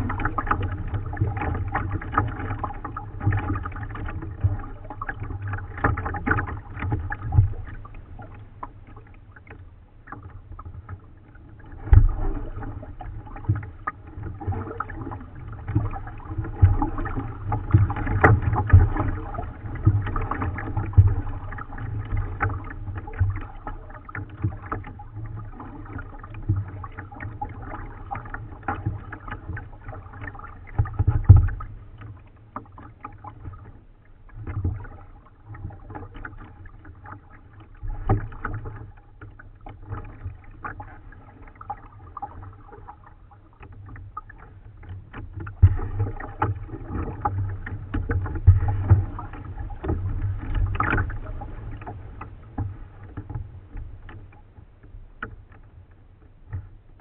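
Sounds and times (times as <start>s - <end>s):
paddle splashes: 0.0s - 57.0s
water sloshing against hull: 0.0s - 57.0s.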